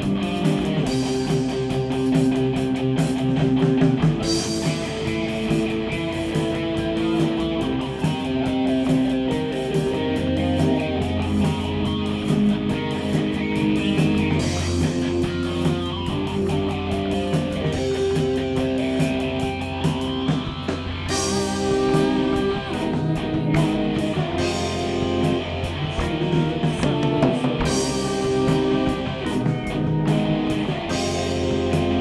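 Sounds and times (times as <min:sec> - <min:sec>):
bass guitar: 0:00.0 - 0:32.0
drums: 0:00.0 - 0:32.0
electric guitar: 0:00.0 - 0:32.0.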